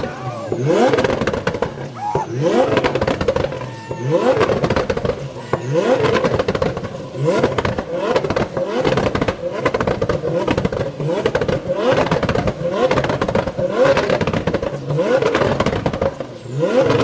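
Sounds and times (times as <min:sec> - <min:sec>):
car engine revving: 0:00.0 - 0:17.0
exhaust crackles: 0:00.0 - 0:17.0.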